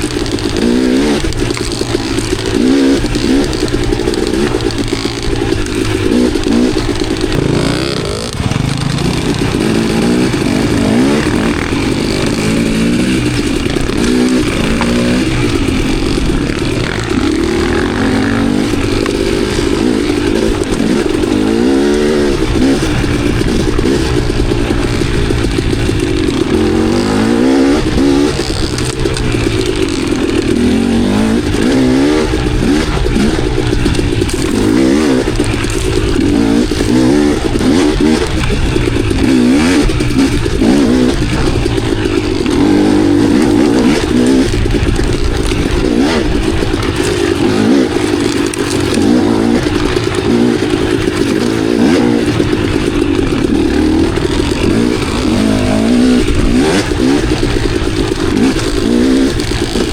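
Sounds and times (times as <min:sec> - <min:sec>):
bike clattering over rough ground: 0:00.0 - 0:59.9
dirt bike engine revving: 0:00.0 - 0:59.9.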